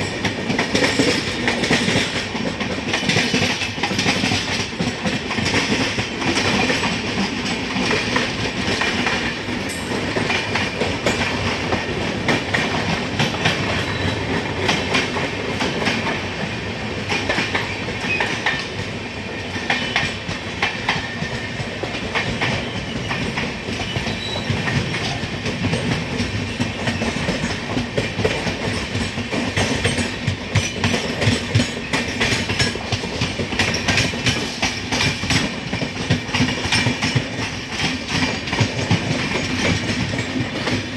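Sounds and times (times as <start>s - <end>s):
train running gear rumble: 0.0s - 40.9s
train wheels clicking over rail joints: 0.0s - 40.9s.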